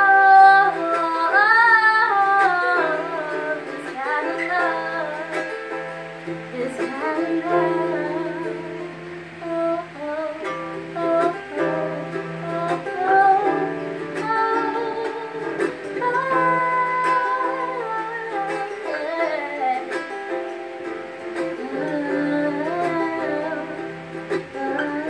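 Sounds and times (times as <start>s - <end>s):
plucked guitars: 0.0s - 25.0s
woman singing: 0.0s - 25.0s.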